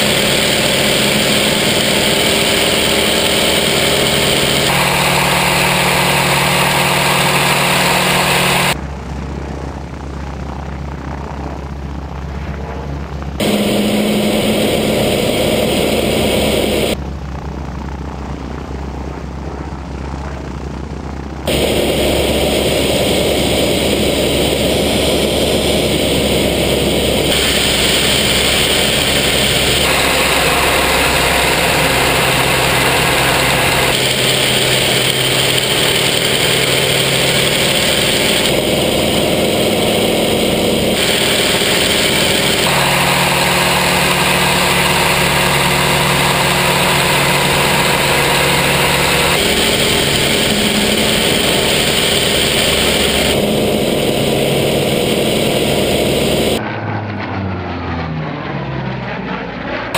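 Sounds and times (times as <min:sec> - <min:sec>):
airflow noise: 0:00.0 - 0:10.1, 0:12.1 - 0:17.0, 0:21.5 - 0:56.6
piston aircraft engine: 0:00.0 - 0:59.9.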